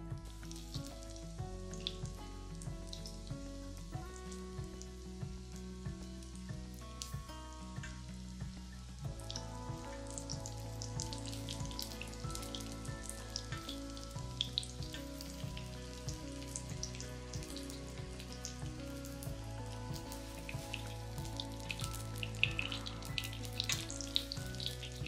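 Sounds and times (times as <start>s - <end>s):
background music with bass line: 0.0s - 25.0s
oil crackling and popping: 0.0s - 25.0s
vegetables sizzling in oil: 0.0s - 25.0s.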